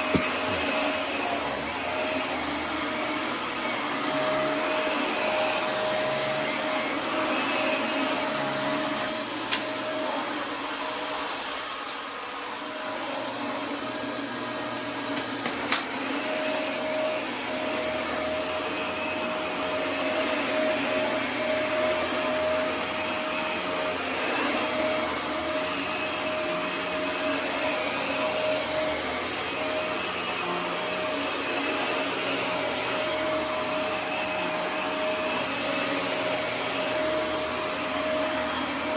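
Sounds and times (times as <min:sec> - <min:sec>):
vacuum cleaner whining hum: 0:00.0 - 0:38.9.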